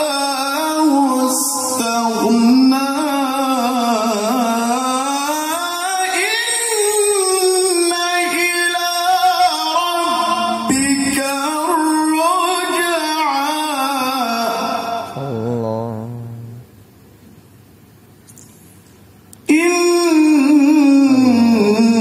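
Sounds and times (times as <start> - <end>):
man reciting melodic chant: 0.0 - 16.8, 19.4 - 22.0.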